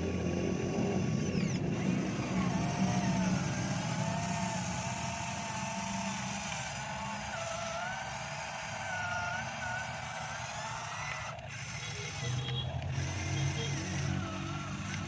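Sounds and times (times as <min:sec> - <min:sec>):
excavator motors and pump whining: 0:00.0 - 0:15.0.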